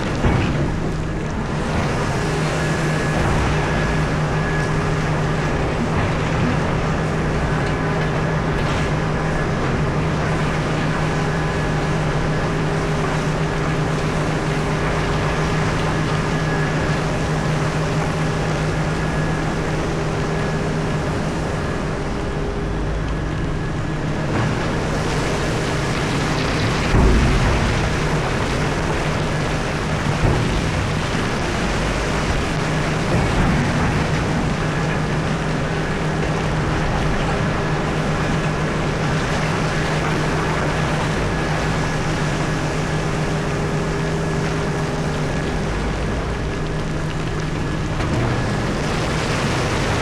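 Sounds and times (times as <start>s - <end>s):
low engine drone: 0.0s - 50.0s.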